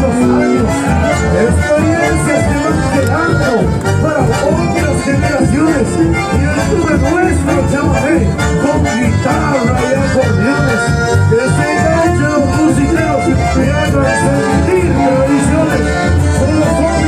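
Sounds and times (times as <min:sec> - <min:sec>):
folk band with acoustic guitars: 0:00.0 - 0:17.0.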